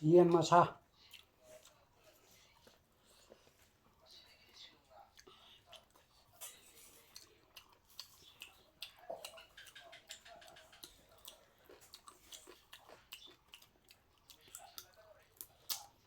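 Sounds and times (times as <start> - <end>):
chewing with wet mouth clicks: 1.0 - 16.0.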